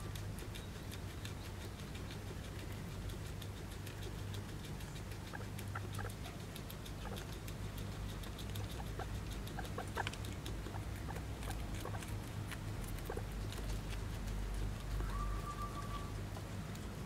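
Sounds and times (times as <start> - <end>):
guinea pig chewing: 0.0 - 17.0
steady low hum: 0.0 - 17.0.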